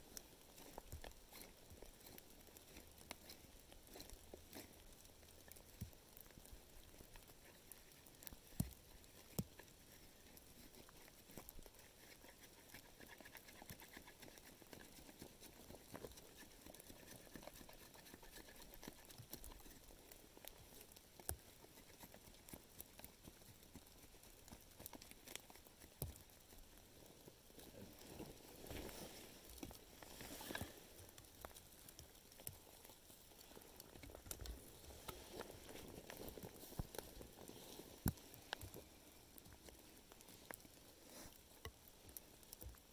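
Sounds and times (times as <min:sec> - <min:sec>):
small clicks and ticks: 0:00.0 - 0:42.9.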